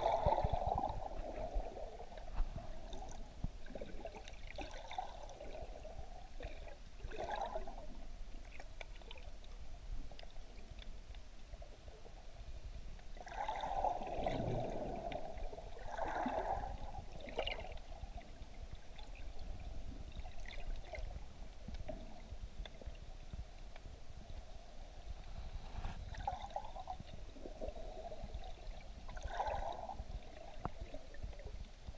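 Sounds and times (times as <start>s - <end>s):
muffled underwater rumble: 0.0s - 31.9s
water gurgling and sloshing: 0.0s - 31.9s.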